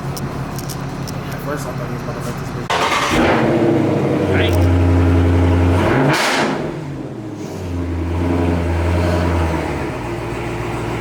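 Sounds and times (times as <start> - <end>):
car engine with deep exhaust drone: 0.0 - 11.0.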